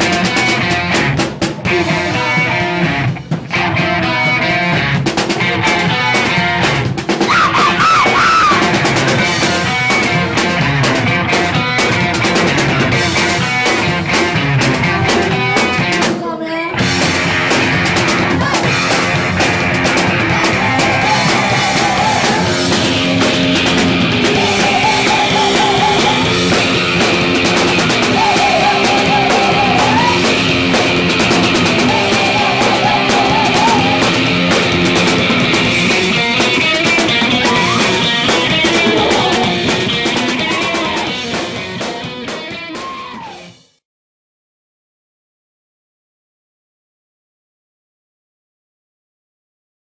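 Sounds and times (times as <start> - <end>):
punk rock band playing: 0.0 - 43.7.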